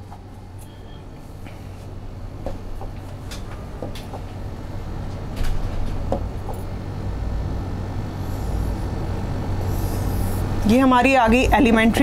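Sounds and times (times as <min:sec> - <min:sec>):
low hum and rumble: 0:00.0 - 0:12.0.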